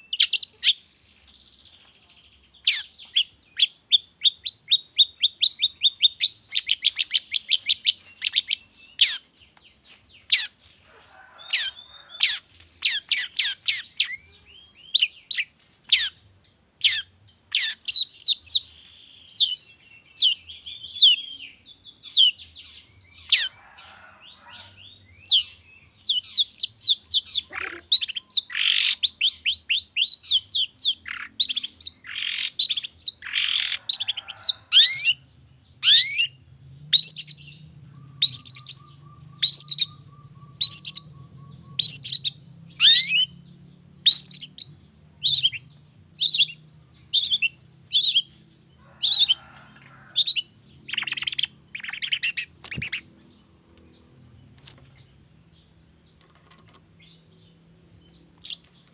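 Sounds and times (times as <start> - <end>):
harsh bird calls: 0.0 - 58.9.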